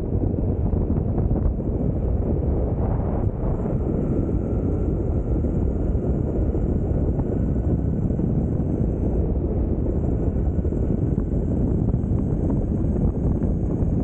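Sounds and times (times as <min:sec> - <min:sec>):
faint motor whine: 0:00.0 - 0:14.0
wheels rolling on asphalt: 0:00.0 - 0:14.0
wind rushing: 0:00.0 - 0:14.0.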